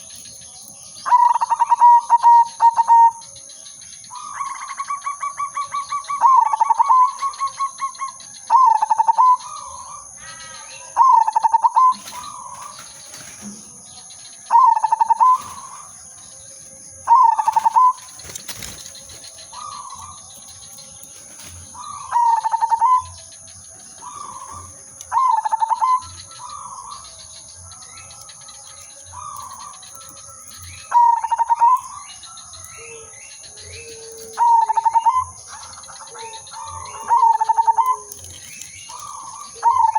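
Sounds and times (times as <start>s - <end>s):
dove cooing: 1.0s - 3.3s, 4.1s - 13.8s, 14.4s - 27.4s, 28.5s - 39.9s.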